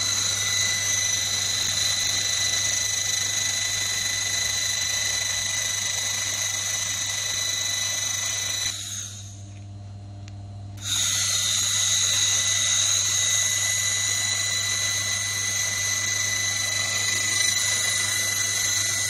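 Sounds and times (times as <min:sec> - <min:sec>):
laser hissing with high whine: 0:00.0 - 0:09.4, 0:10.8 - 0:19.0
low machine hum: 0:00.0 - 0:19.0.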